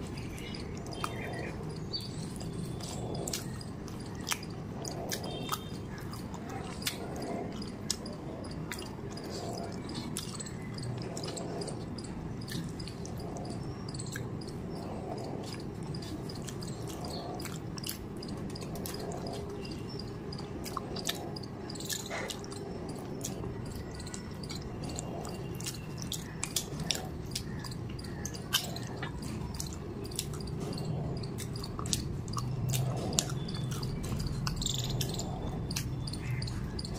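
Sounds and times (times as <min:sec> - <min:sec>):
chewing and wet mouth sounds: 0:00.0 - 0:36.9.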